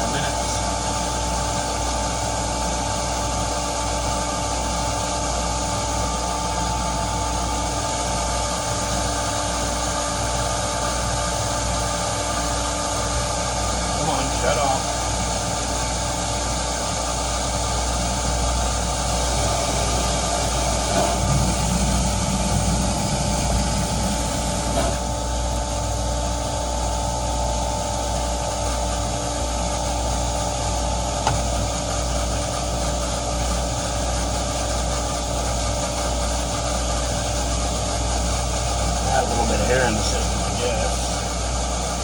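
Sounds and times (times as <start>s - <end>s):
motor humming: 0.0s - 42.0s
steady mechanical whine: 0.0s - 42.0s.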